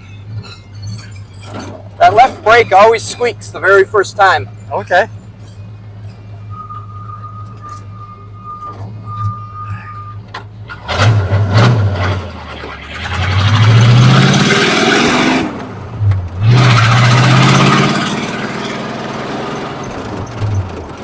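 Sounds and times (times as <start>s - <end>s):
car engine accelerating: 0.2s - 21.0s.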